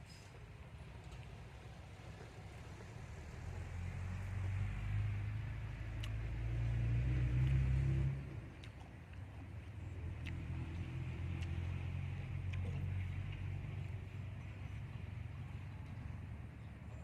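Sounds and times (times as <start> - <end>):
motor drone of passing vehicle: 0.0 - 17.0.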